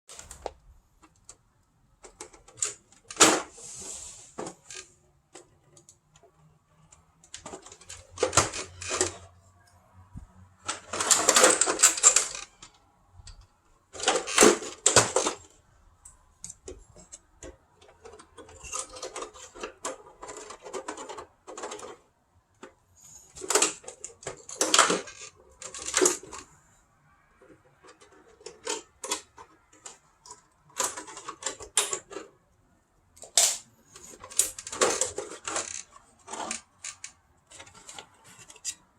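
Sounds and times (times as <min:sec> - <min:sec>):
plastic fan parts clattering: 0:00.1 - 0:09.3, 0:10.0 - 0:32.5, 0:33.2 - 0:38.9.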